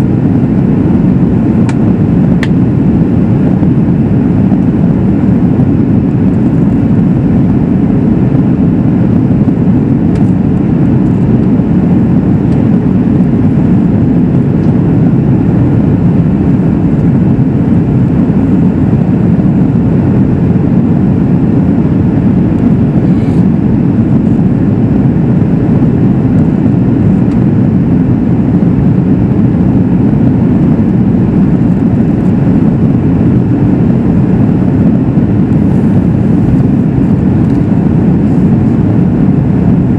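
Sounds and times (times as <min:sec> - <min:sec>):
airliner cabin roar: 0:00.0 - 0:39.9.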